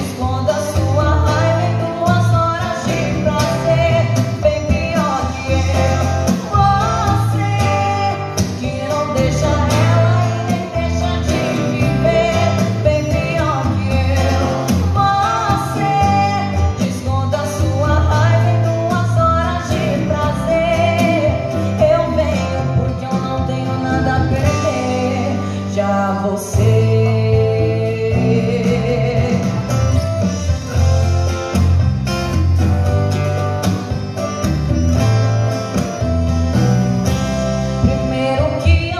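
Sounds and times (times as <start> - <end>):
woman singing into a microphone: 0.0 - 30.4, 37.7 - 38.9
acoustic guitar: 0.0 - 38.9.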